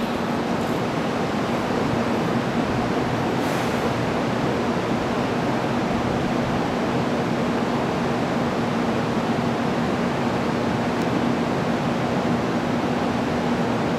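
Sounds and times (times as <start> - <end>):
steady rushing hiss: 0.0 - 13.9.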